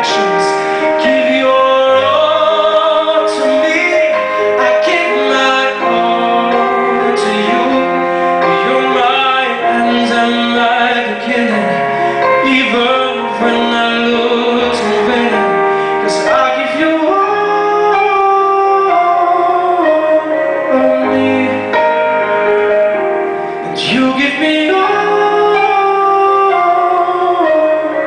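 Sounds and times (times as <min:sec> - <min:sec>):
instrumental accompaniment: 0:00.0 - 0:28.0
man singing into microphone: 0:00.0 - 0:28.0.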